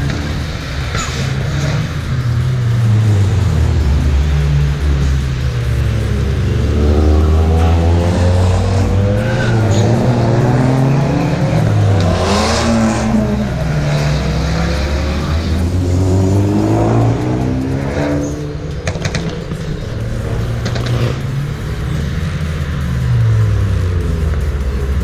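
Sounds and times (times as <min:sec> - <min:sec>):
car engines revving past: 0:00.0 - 0:25.0.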